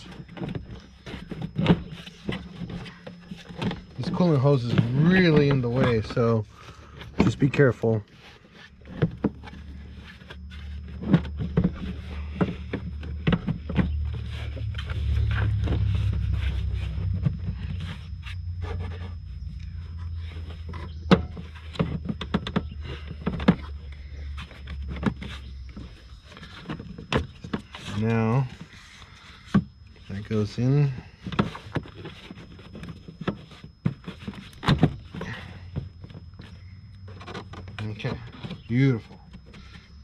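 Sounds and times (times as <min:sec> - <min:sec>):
plastic airbox knocking and scraping: 0:00.0 - 0:40.0
steady low hum: 0:00.0 - 0:40.0.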